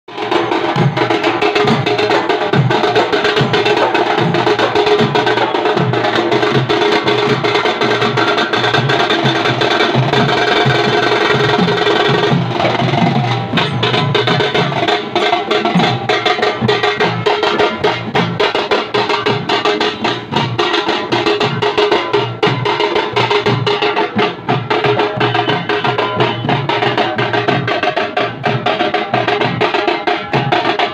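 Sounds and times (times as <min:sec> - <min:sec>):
barrel drums beaten with sticks: 0:00.1 - 0:30.9.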